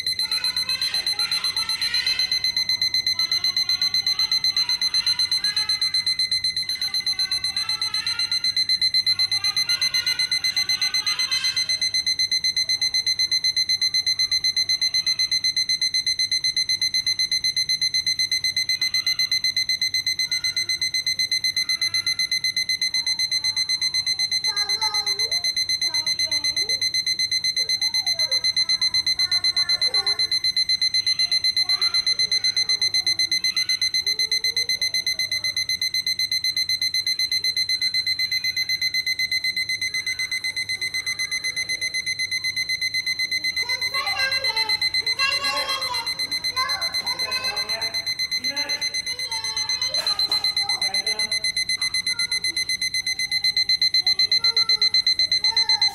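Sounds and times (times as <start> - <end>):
clock alarm beeping: 0.0 - 55.9.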